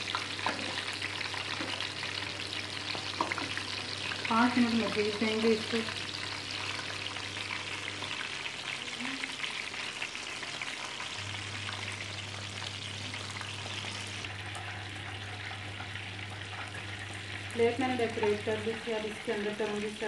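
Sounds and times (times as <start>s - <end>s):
chicken wings deep-frying in oil: 0.0s - 20.0s.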